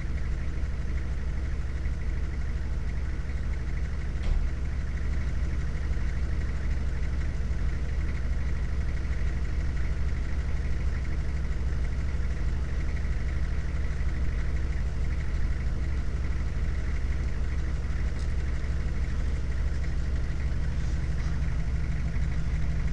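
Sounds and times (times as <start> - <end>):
engine idling: 0.0 - 22.9.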